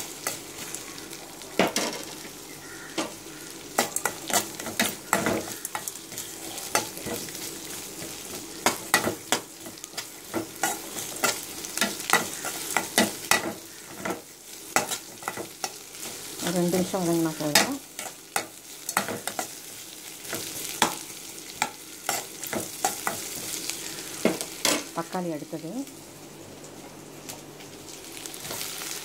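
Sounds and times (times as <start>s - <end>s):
onions and tomatoes sizzling: 0.0s - 29.0s.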